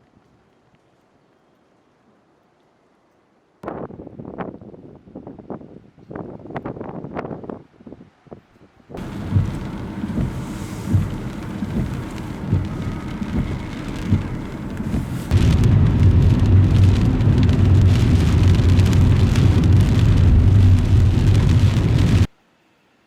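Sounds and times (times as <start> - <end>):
wind and rain on microphone: 3.6 - 22.4.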